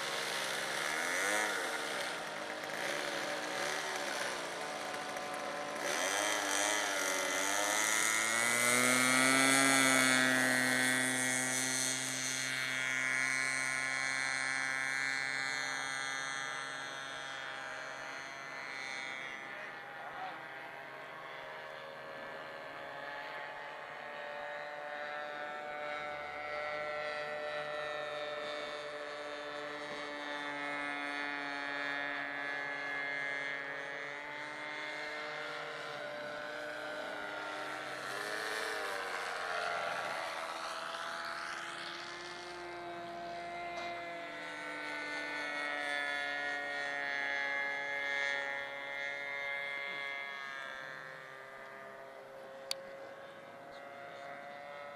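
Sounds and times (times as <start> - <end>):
model airplane engine flying overhead: 0.0 - 54.9.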